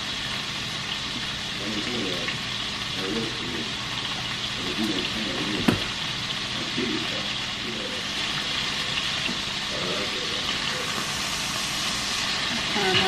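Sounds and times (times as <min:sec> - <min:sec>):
meat patties sizzling in a skillet: 0:00.0 - 0:13.0.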